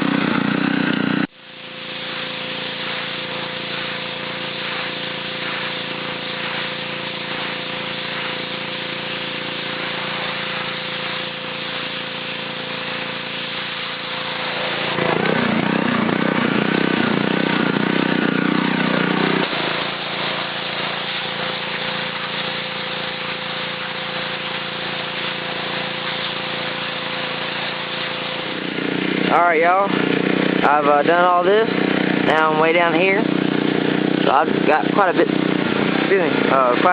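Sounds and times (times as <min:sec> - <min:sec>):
pressure washer engine running: 0:00.0 - 0:36.9
water spray hissing on concrete: 0:00.0 - 0:36.9.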